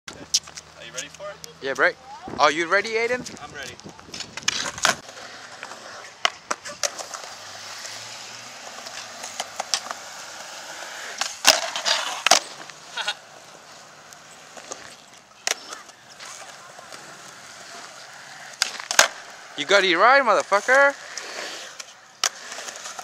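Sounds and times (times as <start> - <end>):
skateboard wheels rolling: 0.1 - 23.0
skateboard clacks on concrete: 3.3 - 8.0, 8.6 - 19.6, 20.2 - 23.0.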